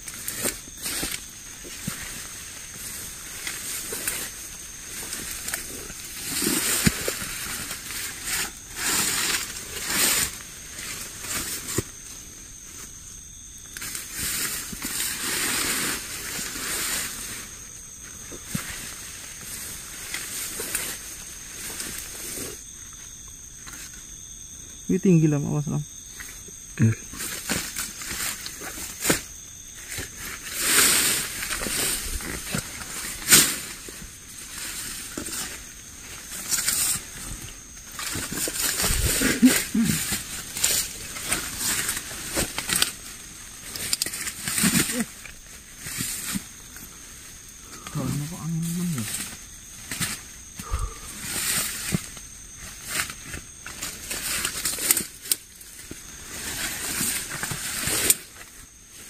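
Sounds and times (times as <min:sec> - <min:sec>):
leaves and stems rustling: 0:00.0 - 0:25.3, 0:25.9 - 0:59.0.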